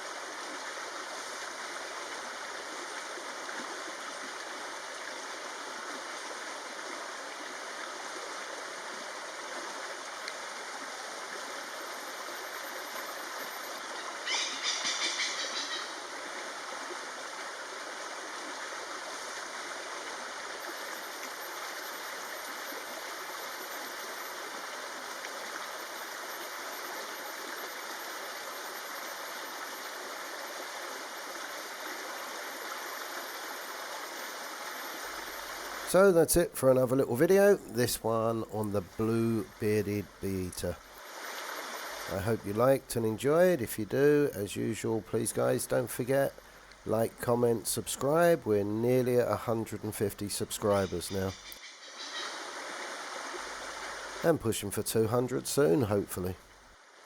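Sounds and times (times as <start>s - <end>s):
forest stream rushing: 0.0s - 57.0s.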